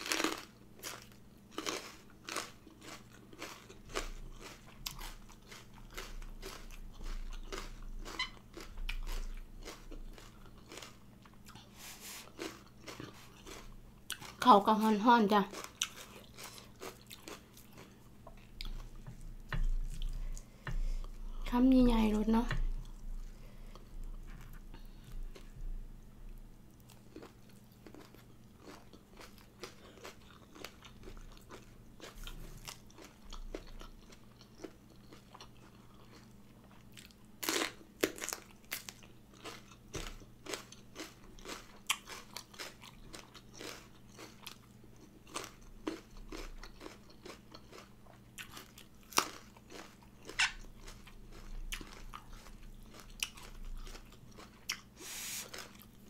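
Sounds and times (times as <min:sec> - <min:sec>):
crisp crunching while eating: 0:00.0 - 0:14.5, 0:15.4 - 0:19.0, 0:26.9 - 0:56.0.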